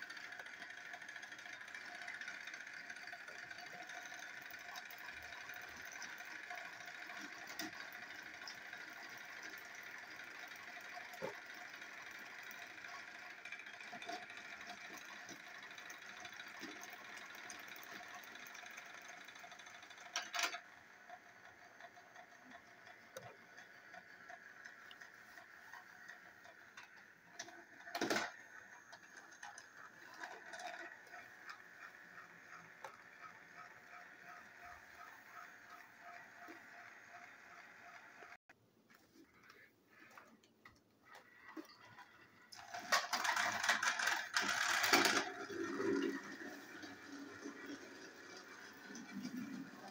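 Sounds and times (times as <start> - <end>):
toy train motors whirring: 0.0 - 38.4, 41.0 - 49.9.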